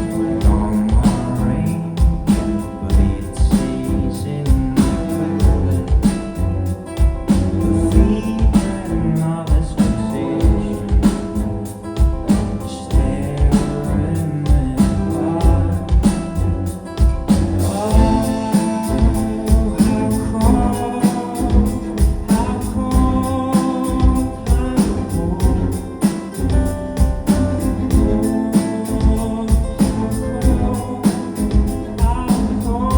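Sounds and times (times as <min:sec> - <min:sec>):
bass guitar: 0:00.0 - 0:32.9
guitars: 0:00.0 - 0:32.9
man singing lead vocal: 0:00.0 - 0:32.9
steady drum beat: 0:00.0 - 0:32.9.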